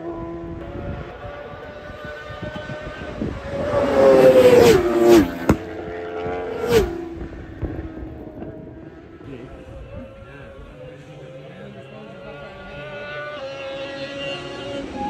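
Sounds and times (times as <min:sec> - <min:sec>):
racing motorbikes passing: 0:00.0 - 0:15.0.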